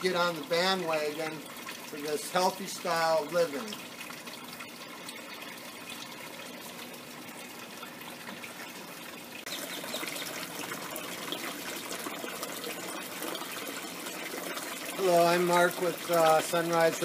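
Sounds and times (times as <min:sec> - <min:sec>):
water trickling through tubes: 0:00.0 - 0:17.0.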